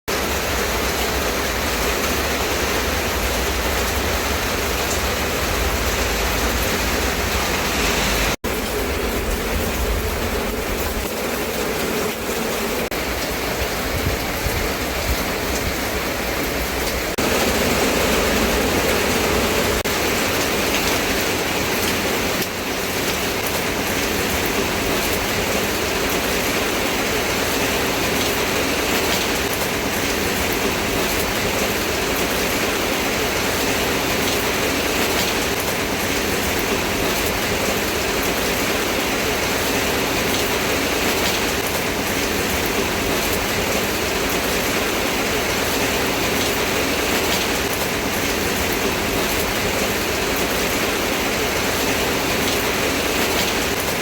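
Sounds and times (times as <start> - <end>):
heavy rainfall: 0.1 - 54.0.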